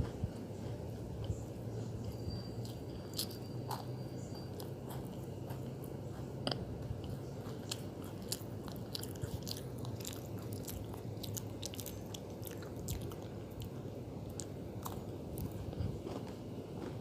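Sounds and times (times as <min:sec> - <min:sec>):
cookie crunching: 0:00.0 - 0:17.0
steady low hum: 0:00.0 - 0:17.0.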